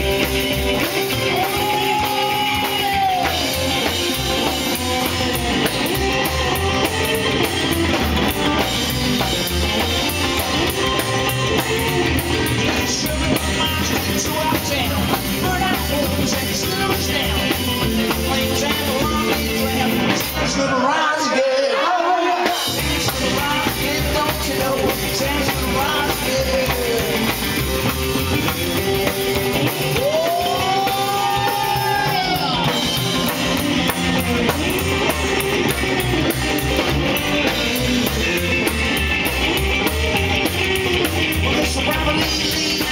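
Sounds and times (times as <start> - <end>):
drums: 0.0 - 42.9
electric guitar: 0.0 - 42.9
rock and roll band playing: 0.0 - 42.9
person singing: 0.8 - 28.0, 29.7 - 42.9.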